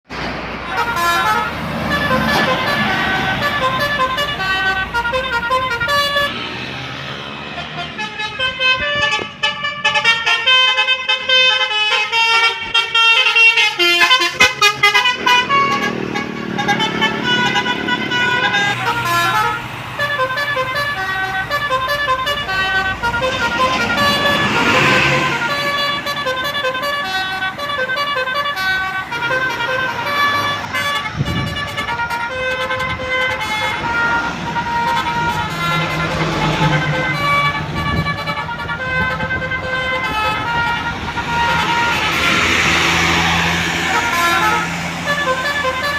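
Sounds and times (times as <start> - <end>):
passing traffic: 0.0 - 45.9
musical bus horn notes: 0.1 - 45.9.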